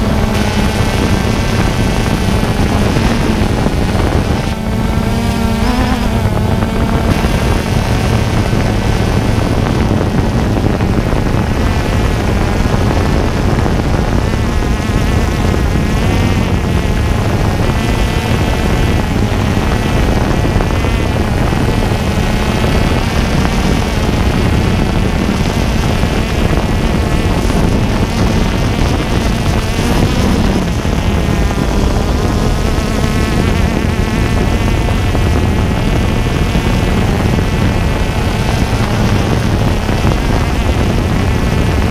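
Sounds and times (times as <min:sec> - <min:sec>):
drone propellers buzzing: 0:00.0 - 0:41.9.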